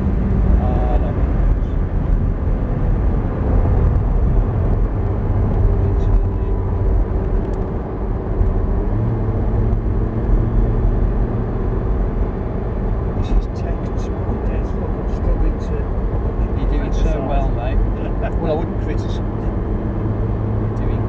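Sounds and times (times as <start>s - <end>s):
heavy low rumble: 0.0s - 21.0s
sports car engine: 0.0s - 21.0s.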